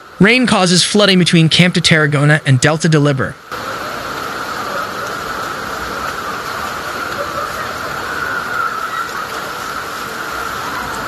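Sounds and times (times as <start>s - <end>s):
floodwater running: 0.0s - 11.0s
heavy rain on street: 0.0s - 11.0s.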